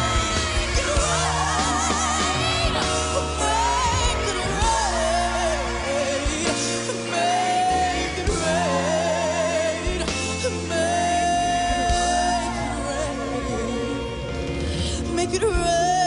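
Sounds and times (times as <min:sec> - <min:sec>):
backing band playing: 0:00.0 - 0:16.0
woman singing with vibrato: 0:00.0 - 0:16.0.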